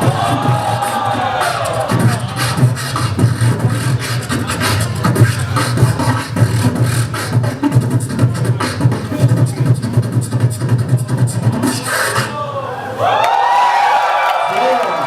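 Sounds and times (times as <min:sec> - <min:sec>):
hip-hop beat: 0:00.0 - 0:12.4.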